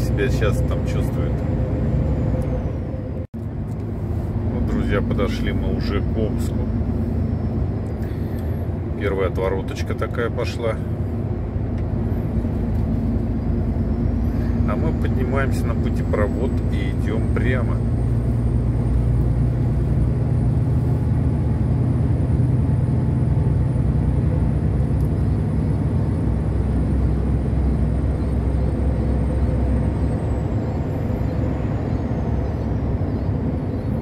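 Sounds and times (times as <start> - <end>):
road noise: 0.0 - 34.0
truck engine drone: 0.0 - 34.0.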